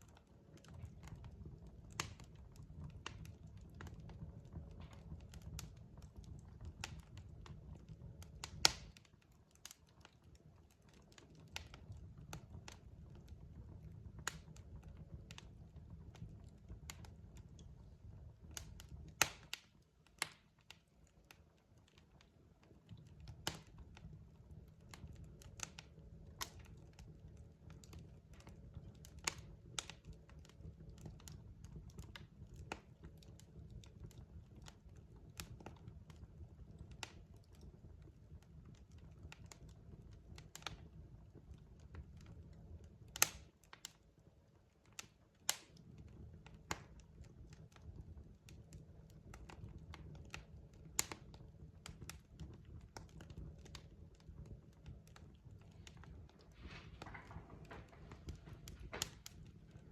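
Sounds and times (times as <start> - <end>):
logs crackling and popping: 0.0 - 59.9
low rumble of fire: 0.0 - 59.9.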